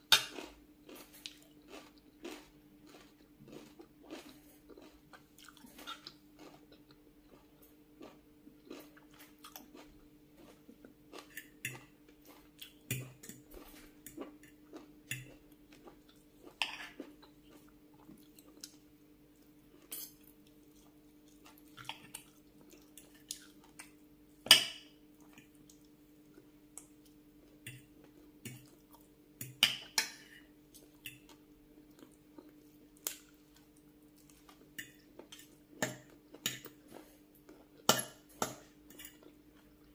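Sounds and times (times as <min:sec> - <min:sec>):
faint steady hum: 0:00.0 - 0:39.9
chewing food: 0:00.2 - 0:24.0, 0:25.2 - 0:30.0, 0:30.7 - 0:39.9.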